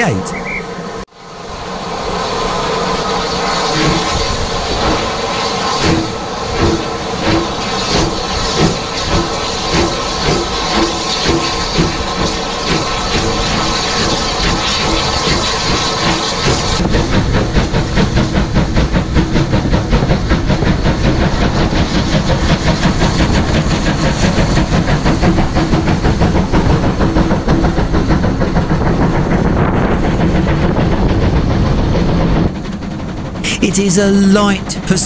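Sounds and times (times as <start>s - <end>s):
steam locomotive exhaust beats: 0.3s - 33.4s.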